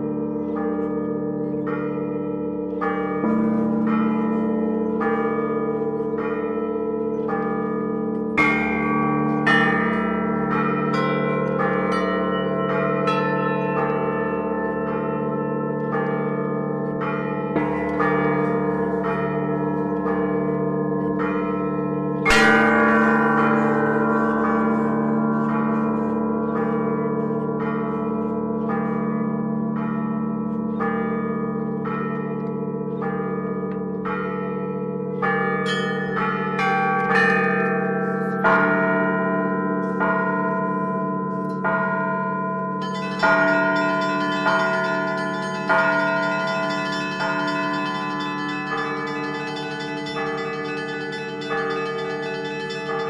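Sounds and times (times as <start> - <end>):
large bells ringing: 0.0 - 53.0.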